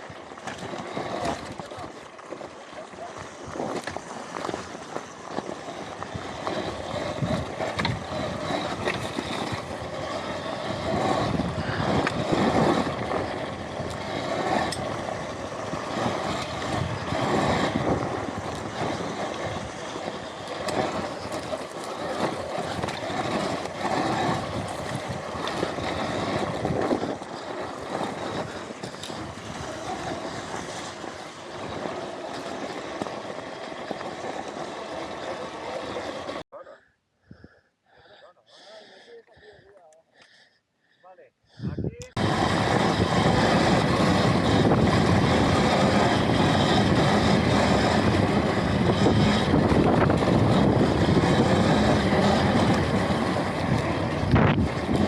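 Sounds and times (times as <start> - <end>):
tyres on dirt: 0.0 - 36.4, 41.9 - 55.0
rushing wind: 3.1 - 36.4, 41.5 - 55.0.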